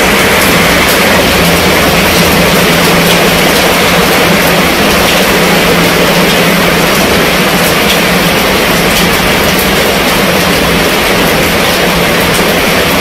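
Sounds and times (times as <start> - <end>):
rain on a fabric tent roof: 0.0 - 13.0.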